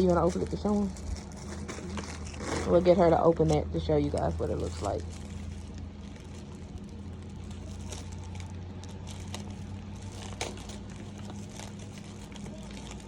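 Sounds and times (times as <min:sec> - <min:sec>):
packaging clicks and crinkles: 0:00.0 - 0:13.0
steady low hum: 0:00.0 - 0:13.0.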